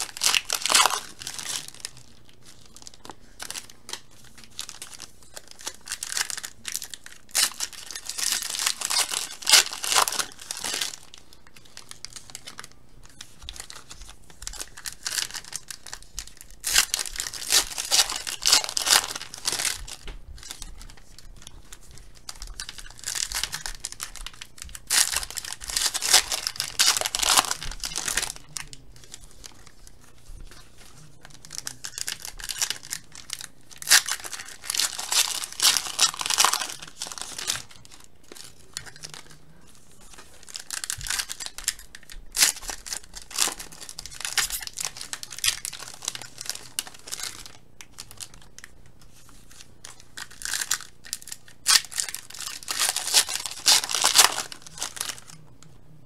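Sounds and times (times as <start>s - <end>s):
foil packs tearing and crinkling: 0.0s - 29.9s, 30.5s - 39.4s, 40.0s - 48.7s, 49.4s - 55.4s.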